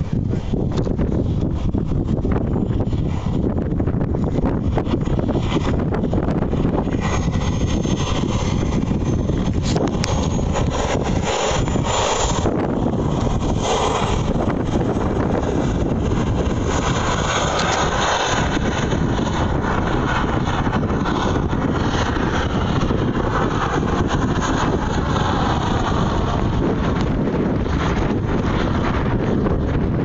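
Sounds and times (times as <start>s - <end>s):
model helicopter flying: 0.0s - 30.0s
wind buffeting microphone: 0.0s - 30.0s.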